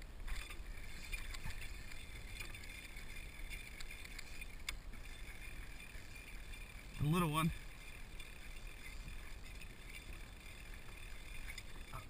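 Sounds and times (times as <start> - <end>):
faint clicks: 0.0 - 12.0.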